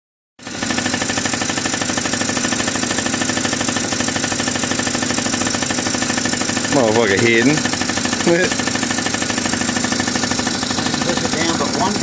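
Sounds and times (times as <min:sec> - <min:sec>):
scooter engine running: 0:00.4 - 0:12.0.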